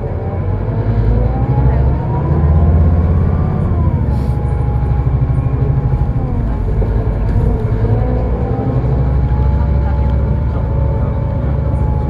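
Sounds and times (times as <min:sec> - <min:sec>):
bus engine low rumble: 0:00.0 - 0:12.0
drivetrain whine: 0:00.0 - 0:12.0.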